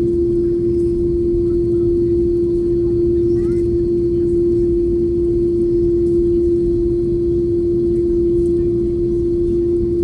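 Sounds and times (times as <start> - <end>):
jet engine and airflow rumble: 0.0 - 10.0
steady humming tone: 0.0 - 10.0.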